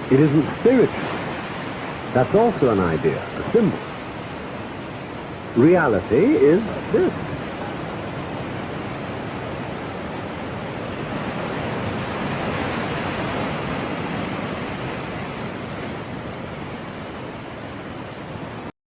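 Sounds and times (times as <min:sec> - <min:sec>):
breaking waves: 0:00.0 - 0:18.7.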